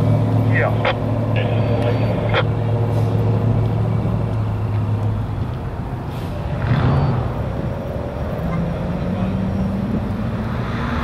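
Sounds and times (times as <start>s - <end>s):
diesel engine idling: 0.0s - 10.4s.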